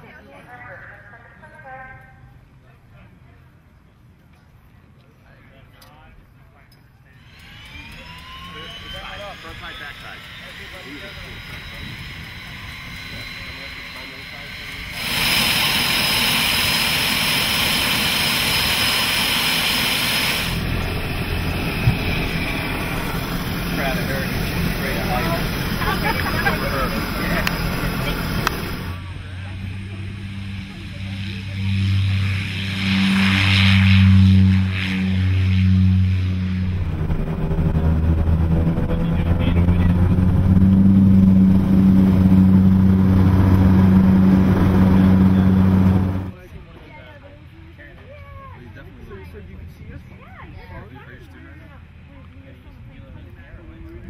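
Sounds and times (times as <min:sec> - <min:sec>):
low dull engine rumble: 0:00.0 - 0:54.0
turboprop engine whine: 0:05.6 - 0:54.0.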